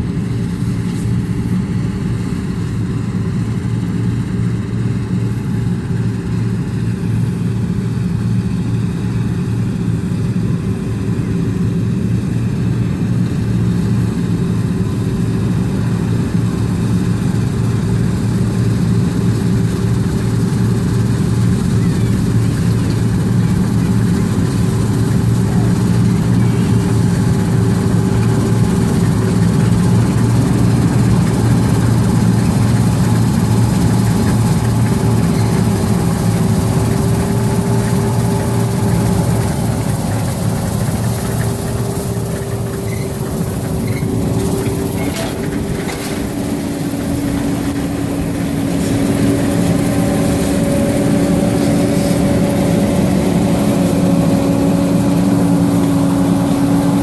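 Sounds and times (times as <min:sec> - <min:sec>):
diesel engine rumbling under load: 0:00.0 - 0:57.0.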